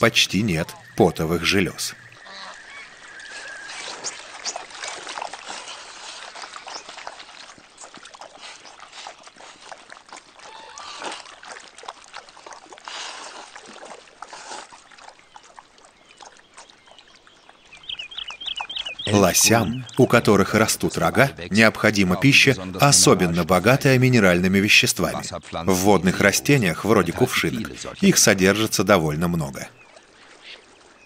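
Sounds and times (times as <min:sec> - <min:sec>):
water dripping: 0:00.0 - 0:31.0
water splashing and trickling: 0:00.0 - 0:31.0.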